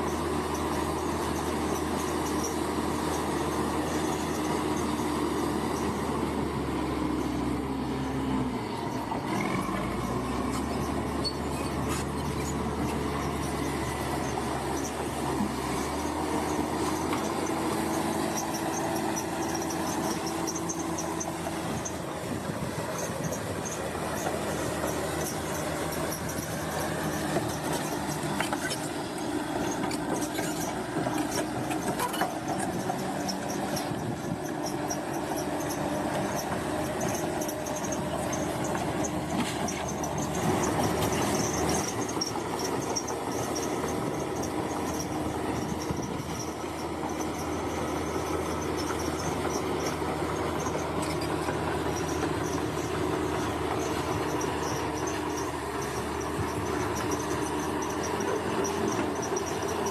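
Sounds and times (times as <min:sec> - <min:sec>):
steel tracks clanking and squealing: 0:00.0 - 0:06.4, 0:07.2 - 0:59.9
diesel engine running: 0:00.0 - 0:59.9.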